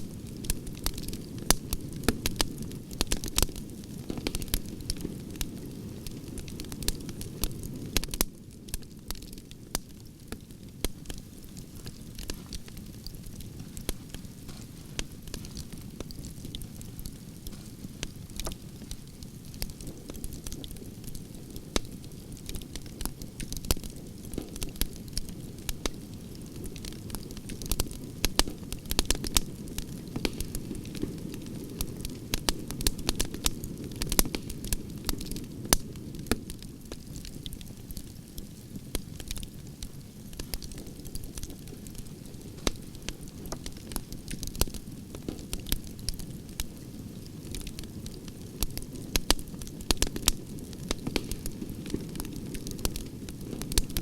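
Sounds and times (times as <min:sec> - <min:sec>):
campfire flames rushing: 0:00.0 - 0:54.0
logs crackling and popping: 0:00.0 - 0:54.0.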